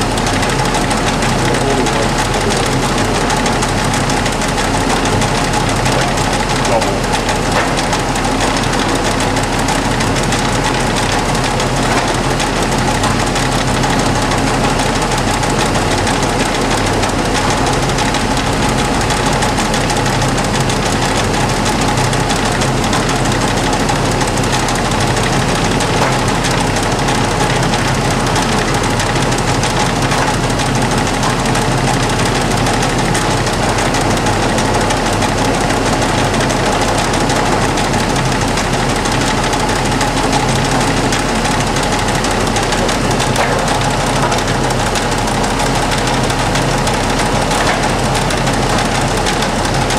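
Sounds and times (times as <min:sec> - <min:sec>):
lathe running: 0:00.0 - 0:49.9.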